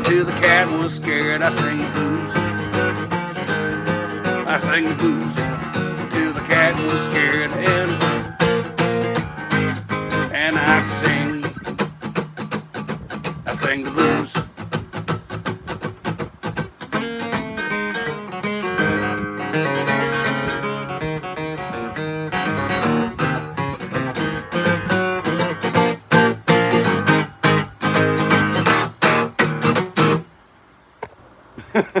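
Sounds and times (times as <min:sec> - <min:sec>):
acoustic guitar blues strumming: 0:00.0 - 0:30.4.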